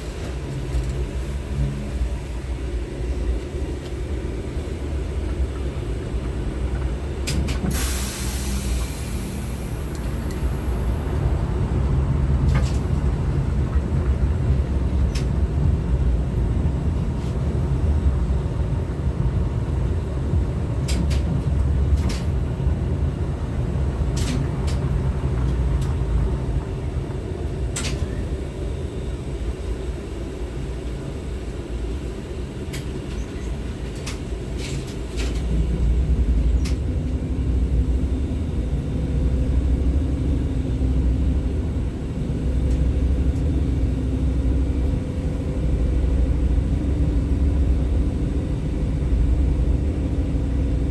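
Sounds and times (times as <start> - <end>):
tram wheels rumbling: 0.0 - 50.9.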